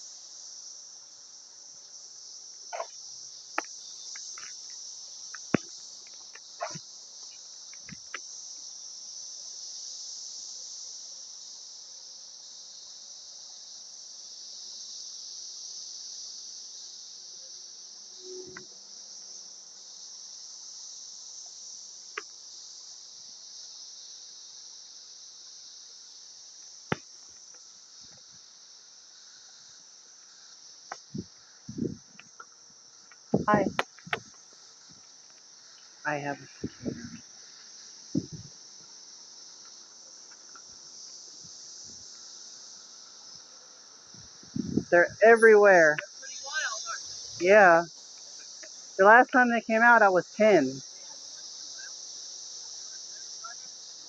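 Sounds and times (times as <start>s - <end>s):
cicadas high-pitched hiss: 0.0s - 54.0s.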